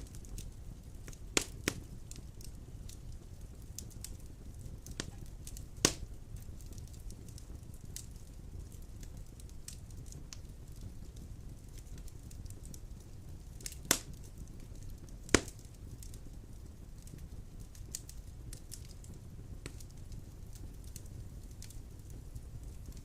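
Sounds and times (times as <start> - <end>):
fire rumbling: 0.0 - 23.0
wood fire crackling and popping: 0.0 - 23.0.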